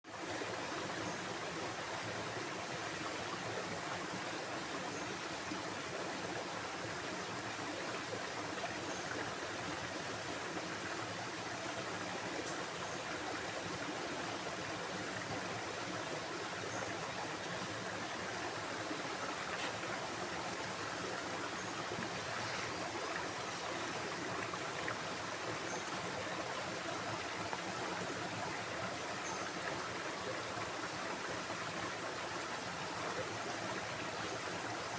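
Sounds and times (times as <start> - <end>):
stream water flowing: 0.1 - 34.9.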